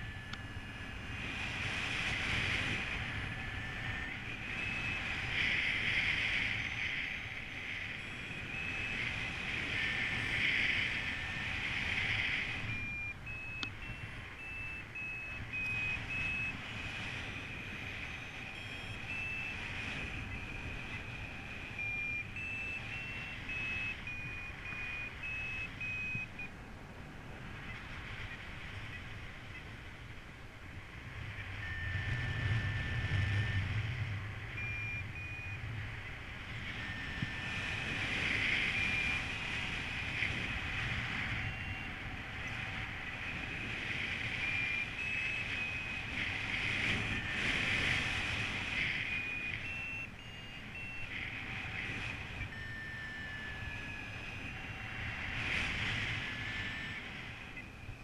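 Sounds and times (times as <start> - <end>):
variometer beeping: 0.0 - 26.7, 30.7 - 58.0
wind rushing over microphone: 0.0 - 58.0.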